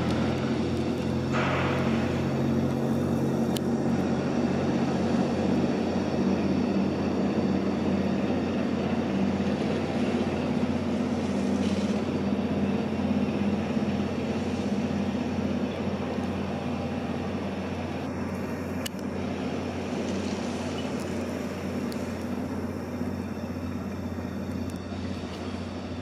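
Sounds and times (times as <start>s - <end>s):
ship diesel engines droning: 0.0s - 26.0s.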